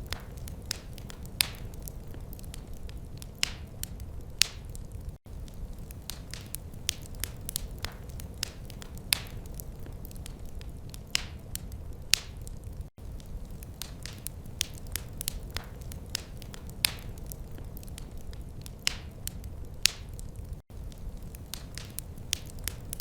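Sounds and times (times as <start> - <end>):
low rumble of flames: 0.0 - 23.0
wood fire crackling and popping: 0.0 - 23.0.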